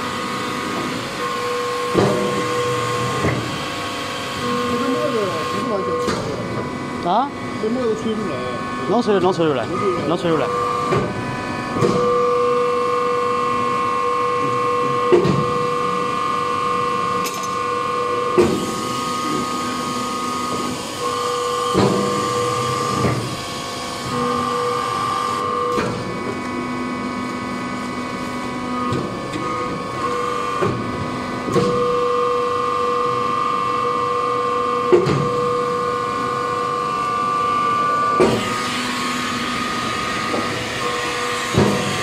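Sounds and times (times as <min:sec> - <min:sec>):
hydraulic press motor and pump whine: 0:00.0 - 0:42.0.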